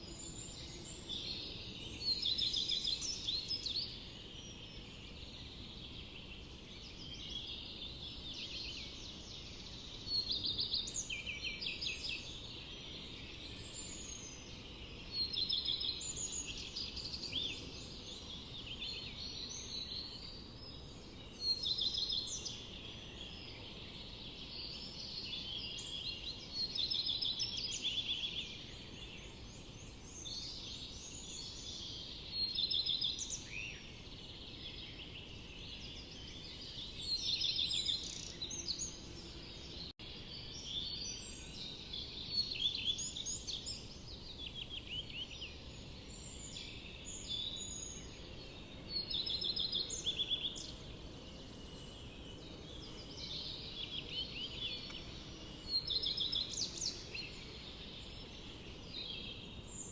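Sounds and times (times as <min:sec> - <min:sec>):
loud bird song phrase: 0:00.0 - 0:59.9
low steady hiss: 0:00.0 - 0:59.9
songbirds chirping and trilling: 0:00.0 - 0:59.9.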